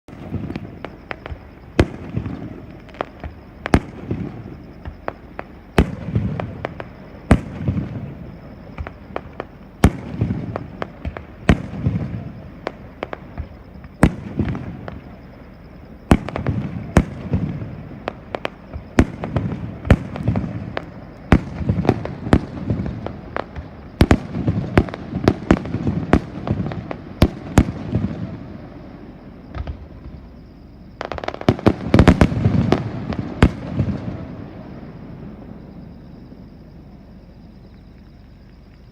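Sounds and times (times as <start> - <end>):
fireworks bangs: 0.1 - 37.3.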